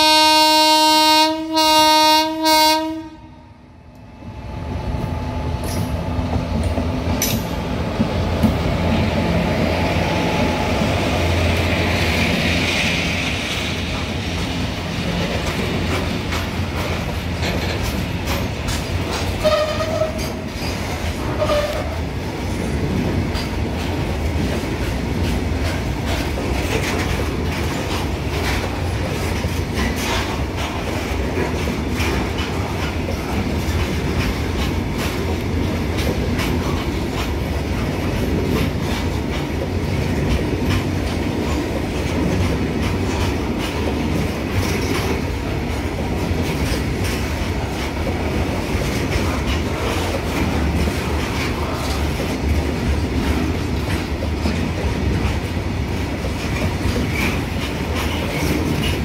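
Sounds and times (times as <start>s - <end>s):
train low rumble: 0.0s - 59.0s
wheels clicking over rail joints: 5.6s - 11.7s, 13.6s - 59.0s.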